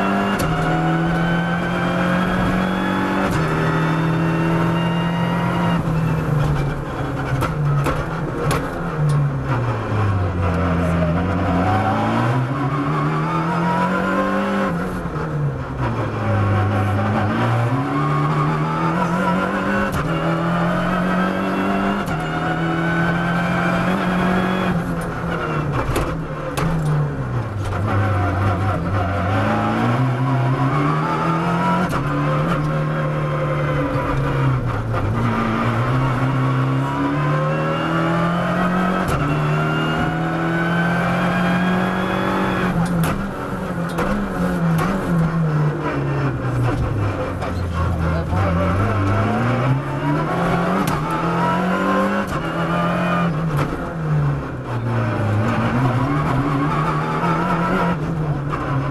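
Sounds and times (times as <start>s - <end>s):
rally car engine revving: 0.0s - 58.9s.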